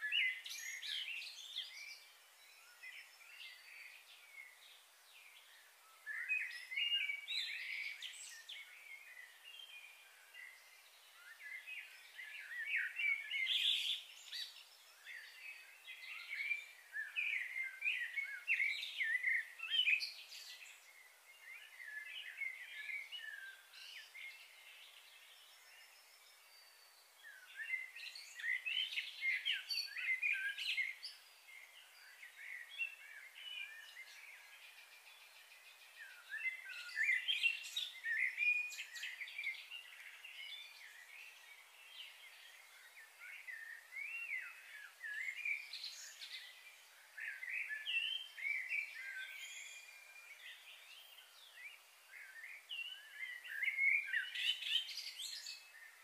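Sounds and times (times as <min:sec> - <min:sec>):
faint steady hiss: 0:00.0 - 0:56.0
small birds twittering: 0:00.0 - 0:56.0.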